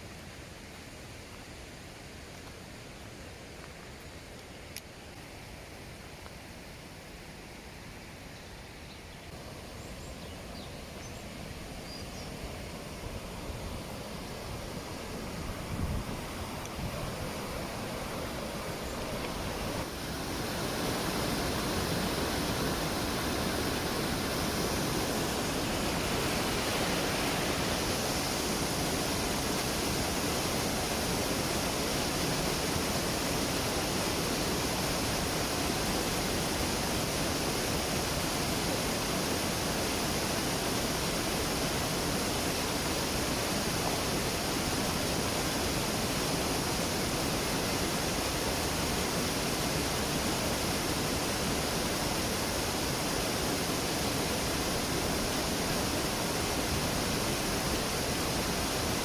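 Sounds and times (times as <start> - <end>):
waterfall rushing: 9.3 - 59.0.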